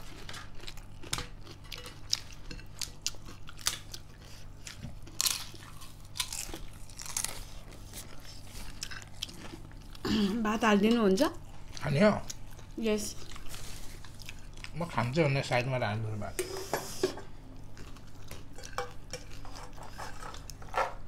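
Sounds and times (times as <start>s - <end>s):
chewing and crunching food: 0.0s - 16.0s, 17.2s - 21.0s.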